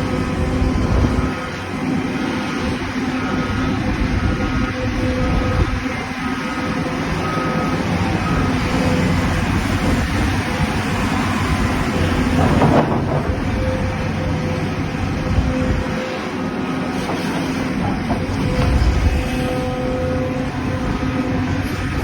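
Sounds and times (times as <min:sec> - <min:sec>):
heavy machinery running: 0:00.0 - 0:22.0.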